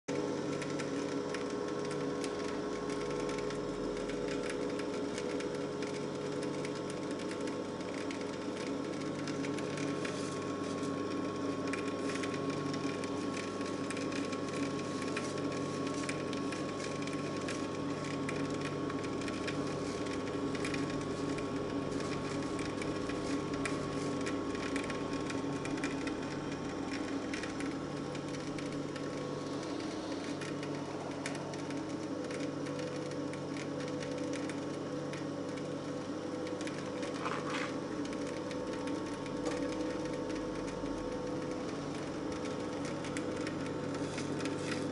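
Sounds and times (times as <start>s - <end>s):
oil press motor hum: 0.1s - 44.9s.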